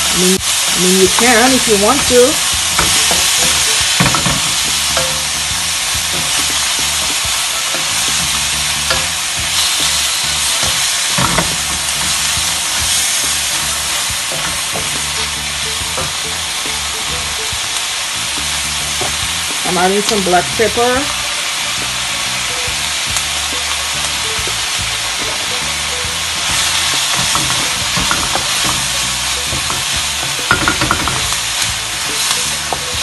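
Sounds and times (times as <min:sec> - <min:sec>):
fish and onion sizzling in pan: 0:00.0 - 0:33.0.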